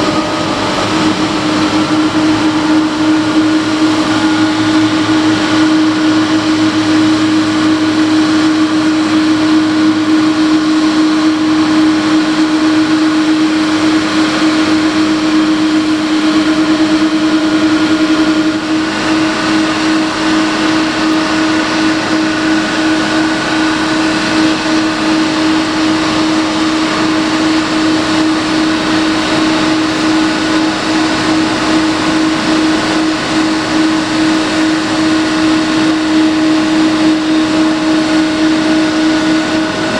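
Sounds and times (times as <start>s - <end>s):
jet airliner engine drone: 0.0s - 39.9s.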